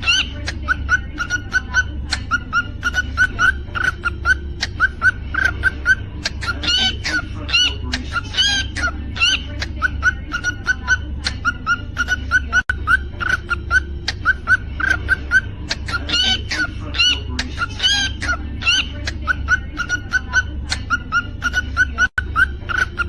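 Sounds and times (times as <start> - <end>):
cockatiel chirping: 0.0 - 23.0
steady low hum: 0.0 - 23.0.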